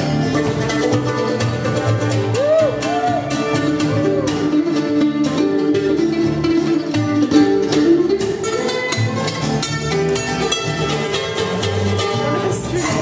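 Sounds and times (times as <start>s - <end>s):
acoustic guitar: 0.0s - 13.0s
picked mandolin: 0.0s - 13.0s
walking upright bass: 0.0s - 13.0s.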